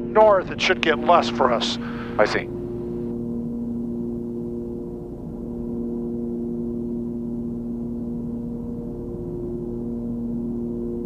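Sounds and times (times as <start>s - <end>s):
aircraft engines droning in cabin: 0.0s - 11.0s.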